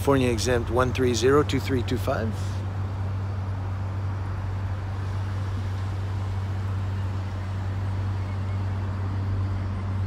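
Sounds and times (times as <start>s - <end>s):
motor vehicle drone: 0.0s - 10.0s.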